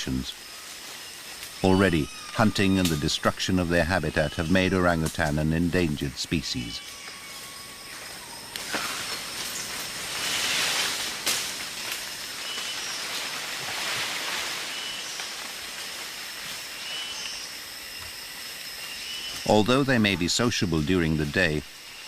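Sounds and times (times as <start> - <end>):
insects hissing: 0.0 - 22.0.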